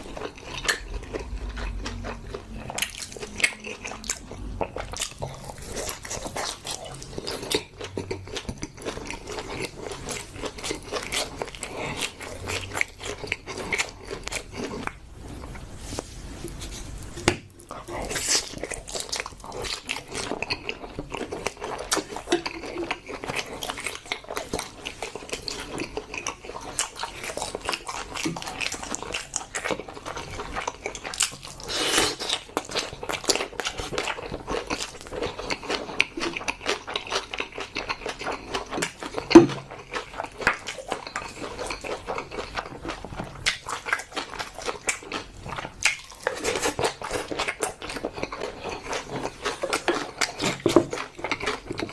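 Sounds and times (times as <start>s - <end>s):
person chewing and biting food: 0.0s - 51.9s.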